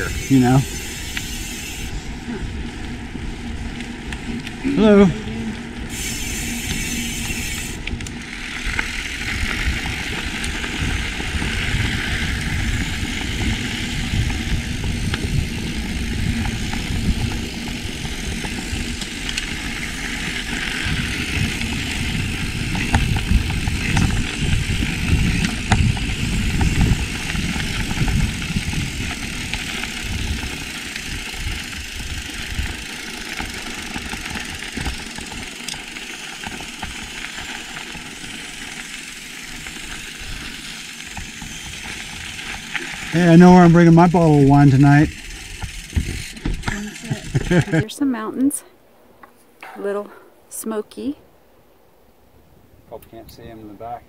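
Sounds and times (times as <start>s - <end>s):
wind buffeting microphone: 0.0s - 38.3s, 39.1s - 47.9s
bike clicks and rattles: 0.0s - 47.8s
tyre hiss on dirt trail: 0.0s - 47.8s.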